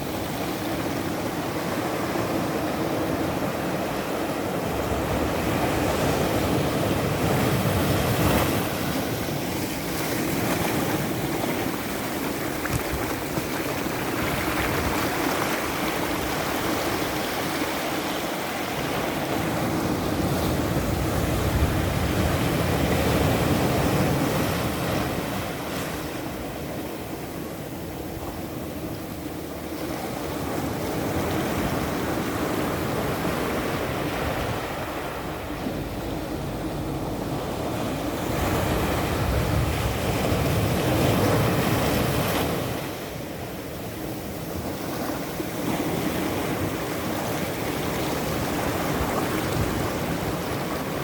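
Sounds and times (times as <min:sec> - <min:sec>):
ocean waves breaking: 0:00.0 - 0:51.0.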